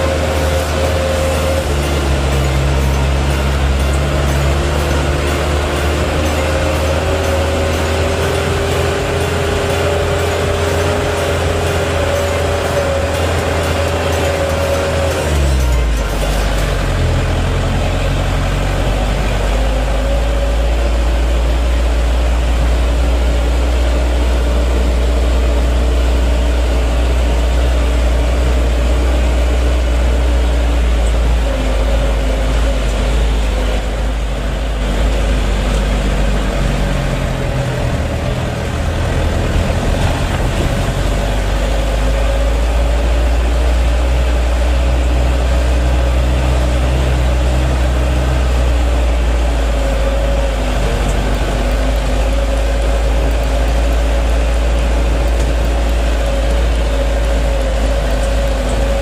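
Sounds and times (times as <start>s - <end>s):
diesel engine drone from inside cabin: 0.0s - 59.0s.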